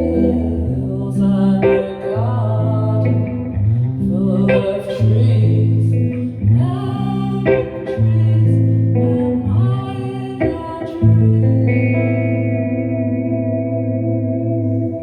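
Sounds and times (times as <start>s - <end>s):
guitar: 0.0s - 15.0s
low bass notes: 0.0s - 15.0s
person singing: 0.0s - 15.0s.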